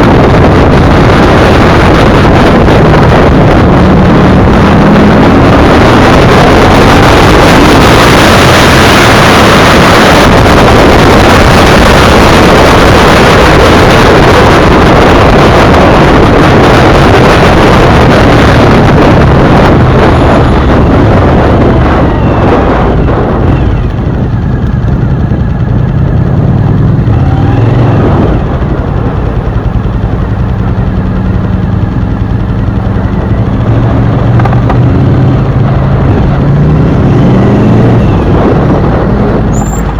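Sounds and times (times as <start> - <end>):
motorcycle engine drone: 0.0 - 39.9
wind noise on microphone: 0.0 - 39.9.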